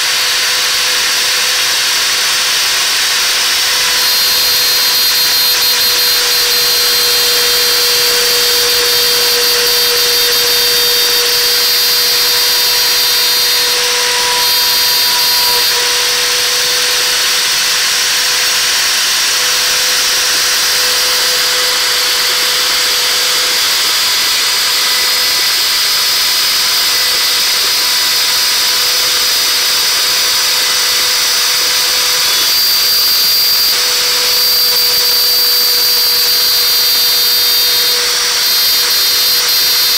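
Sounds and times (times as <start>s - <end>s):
router whining while milling plastic: 0.0s - 39.9s.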